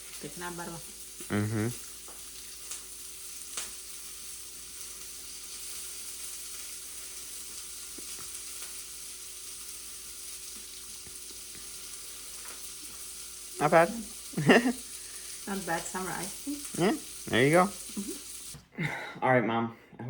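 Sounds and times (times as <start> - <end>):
background hiss: 0.0 - 19.1.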